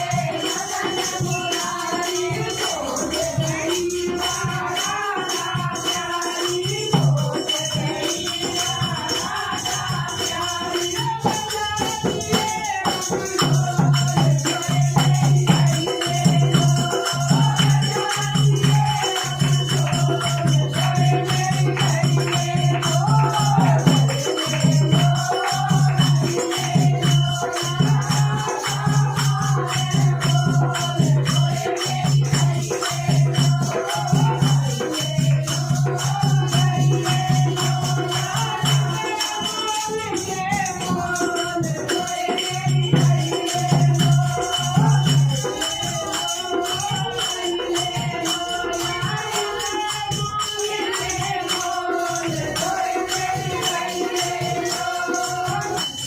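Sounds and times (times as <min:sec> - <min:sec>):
rattling percussion: 0:00.0 - 0:56.0
woman singing: 0:00.0 - 0:56.0.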